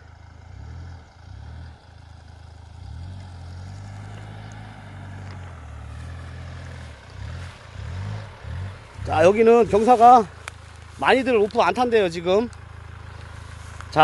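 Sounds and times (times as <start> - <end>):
suv engine droning: 0.0 - 14.0.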